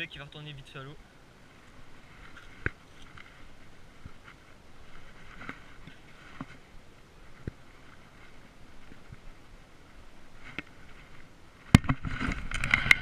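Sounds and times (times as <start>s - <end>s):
light handling rustling: 1.6s - 12.9s.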